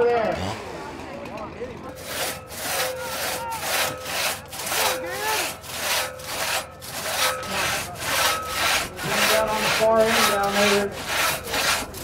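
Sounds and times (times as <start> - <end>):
crosscut saw cutting log: 0.0 - 1.0, 1.8 - 12.0.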